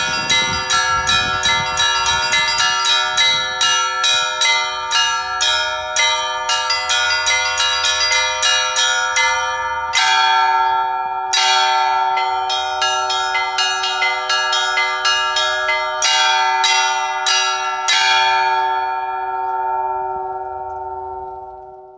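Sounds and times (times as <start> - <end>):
big bells ringing: 0.0 - 21.9.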